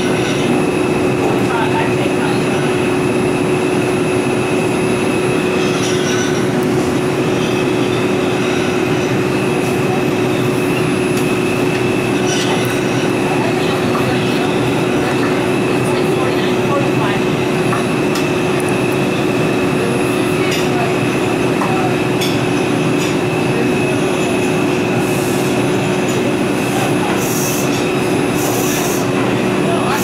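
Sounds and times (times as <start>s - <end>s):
rush of wheels on rail: 0.0s - 30.0s
thin high whine: 0.0s - 30.0s.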